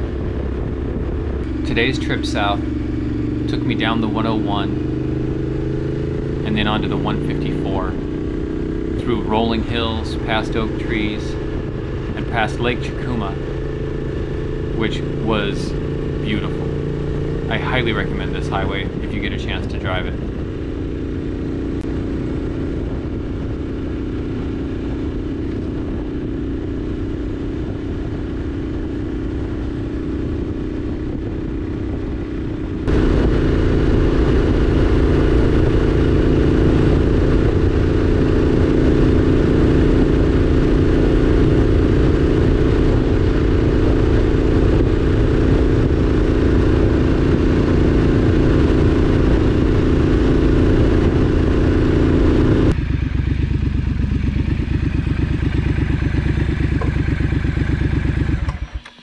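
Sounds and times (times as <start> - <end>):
motorcycle engine cruising: 0.0 - 59.0
road noise: 0.0 - 59.0.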